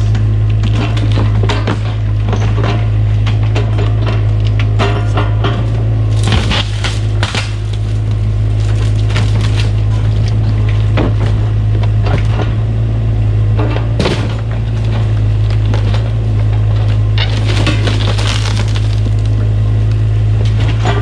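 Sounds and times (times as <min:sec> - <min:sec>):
wood cracking and splintering: 0:00.0 - 0:12.5, 0:14.0 - 0:19.6
diesel engine droning: 0:00.0 - 0:21.0.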